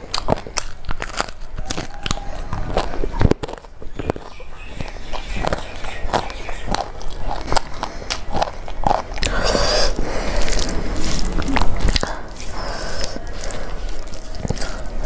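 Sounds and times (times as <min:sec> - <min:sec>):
hand mixing rice: 0:00.0 - 0:15.0
hand tearing lettuce: 0:00.0 - 0:15.0
person chewing with crunches: 0:00.0 - 0:15.0.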